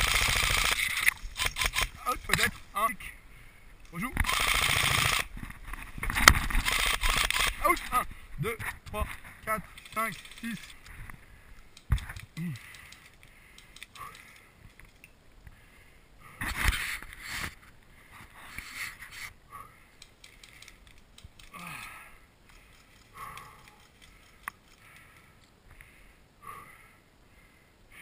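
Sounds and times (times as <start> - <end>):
rustling in grass and dry brush: 0.0 - 25.7.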